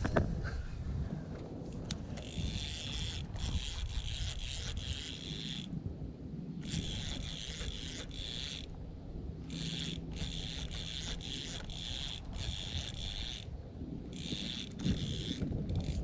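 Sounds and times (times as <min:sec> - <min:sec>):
fishing reel whirring: 0:01.8 - 0:05.8, 0:06.6 - 0:16.0.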